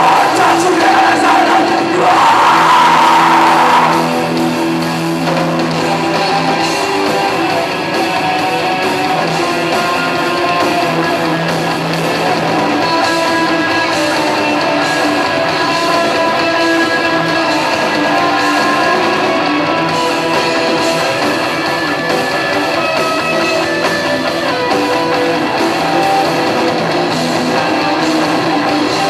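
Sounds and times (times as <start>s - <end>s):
electric guitar: 0.0s - 29.0s
live rock band playing: 0.0s - 29.0s.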